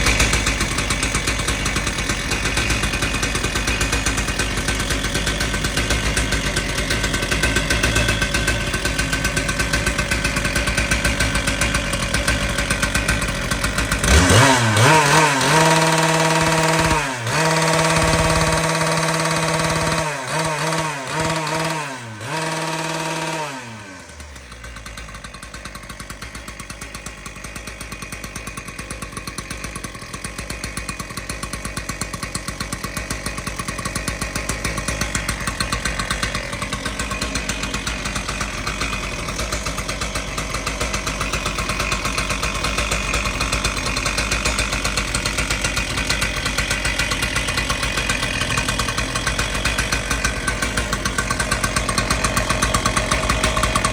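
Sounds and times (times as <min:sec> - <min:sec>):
two-stroke engine cutter running: 0:00.0 - 0:53.9.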